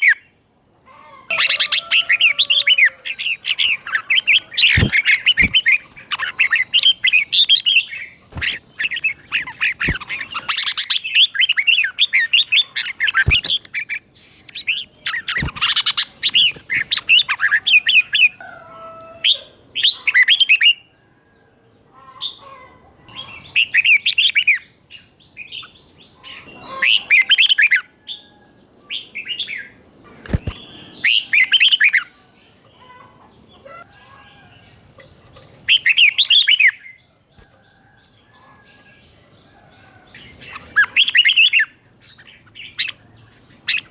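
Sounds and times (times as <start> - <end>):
bird chirping song: 1.3 - 21.4, 22.0 - 43.9.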